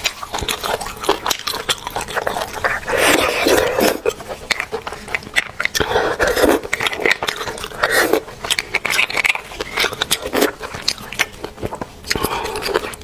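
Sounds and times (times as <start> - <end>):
lip and mouth clicks: 0.0 - 13.0
sucking slurps: 0.0 - 13.0.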